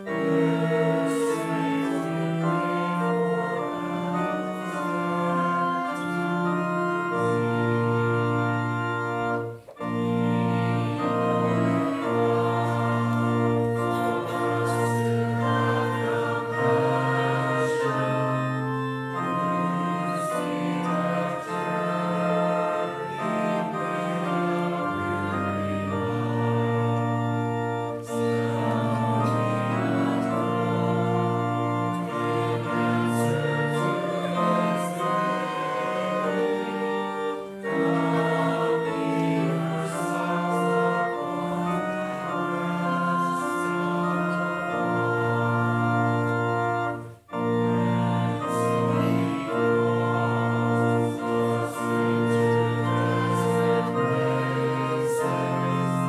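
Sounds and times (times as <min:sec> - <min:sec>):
organ playing sustained chords: 0:00.0 - 0:56.0.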